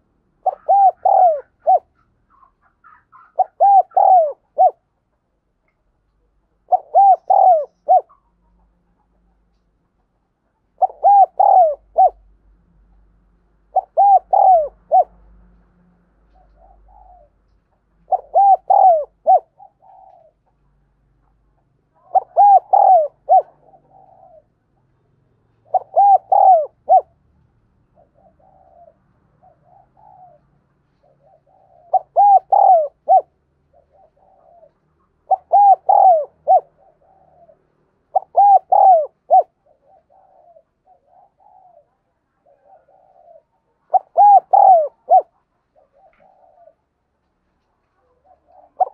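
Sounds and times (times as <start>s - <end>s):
dove cooing: 0.0s - 5.0s, 6.2s - 9.4s, 10.0s - 12.4s, 13.6s - 15.4s, 16.3s - 27.2s, 27.8s - 48.9s
soft bird calls: 0.0s - 48.9s.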